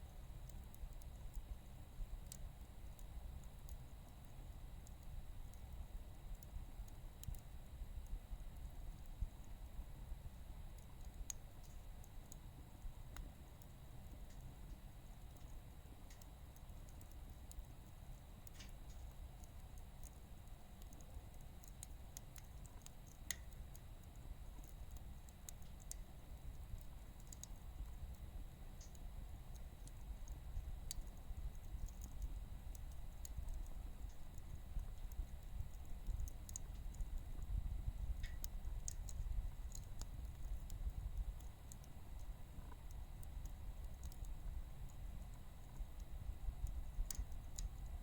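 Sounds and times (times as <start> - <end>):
firewood crackling: 0.2 - 48.0.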